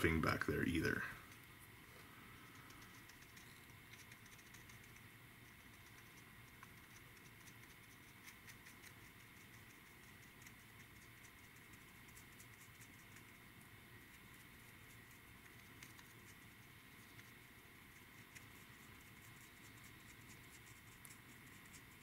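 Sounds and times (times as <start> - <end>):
steady high hum: 0.0 - 22.0.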